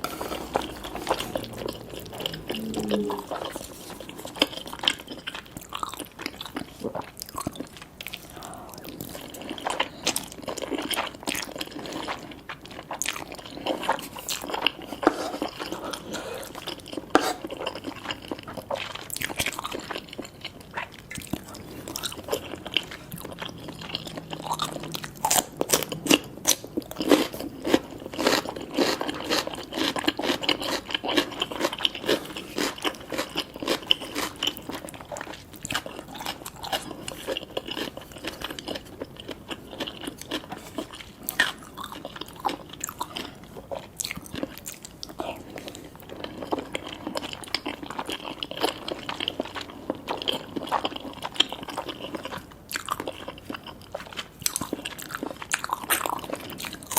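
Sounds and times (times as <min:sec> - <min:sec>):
chewing and biting noodles: 0:00.0 - 0:56.9.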